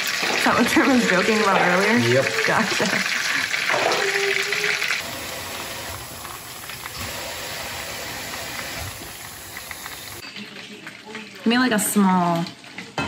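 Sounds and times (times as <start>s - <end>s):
fish frying in oil: 0.0s - 13.0s.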